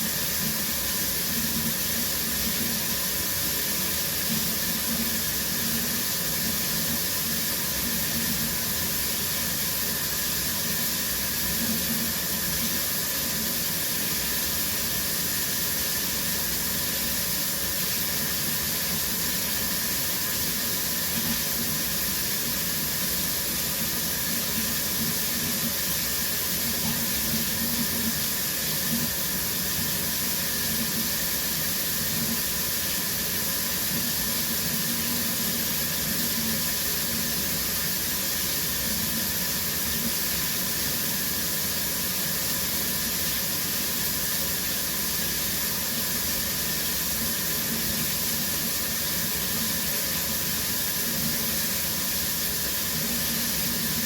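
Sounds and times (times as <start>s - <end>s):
shower water spraying: 0.0s - 54.0s.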